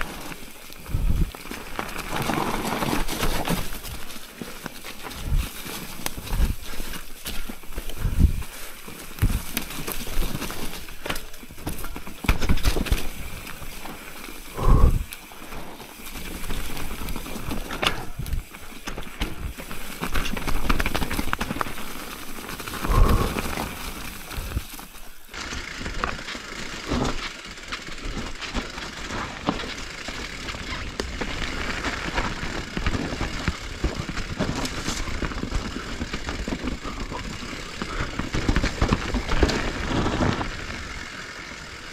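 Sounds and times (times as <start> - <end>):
bike rattling: 0.0 - 41.9
bike tyres crunching on dirt: 0.0 - 41.9.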